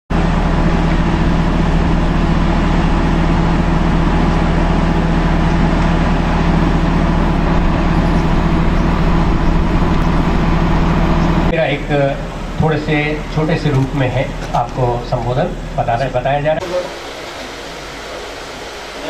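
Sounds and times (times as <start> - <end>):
loud machine hum: 0.1 - 19.0.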